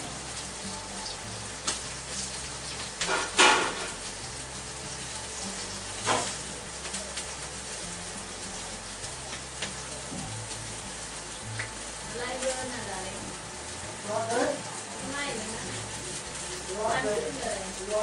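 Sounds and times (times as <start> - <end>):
meat sizzling in a hot wok: 0.0 - 18.0.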